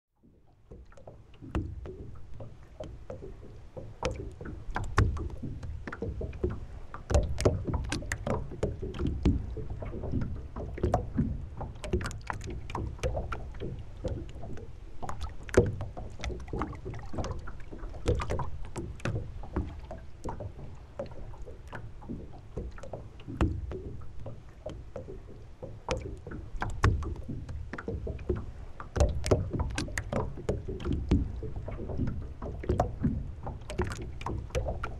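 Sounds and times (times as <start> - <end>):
water slapping against hull: 0.2 - 34.9
steady low rumble: 3.0 - 34.9.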